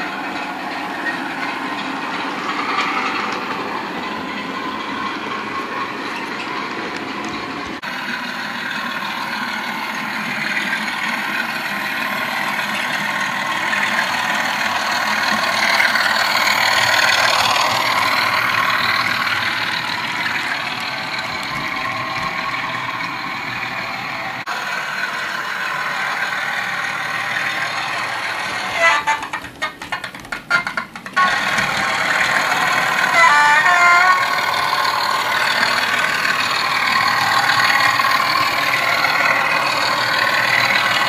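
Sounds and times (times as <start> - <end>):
diesel engine sound from small speaker: 7.2 - 41.0.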